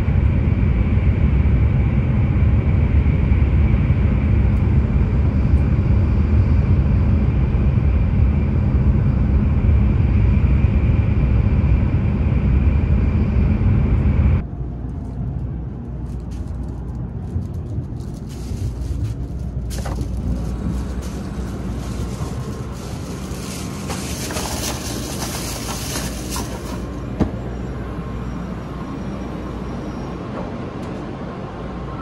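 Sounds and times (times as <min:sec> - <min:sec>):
train rumbling at speed: 0:00.0 - 0:32.0.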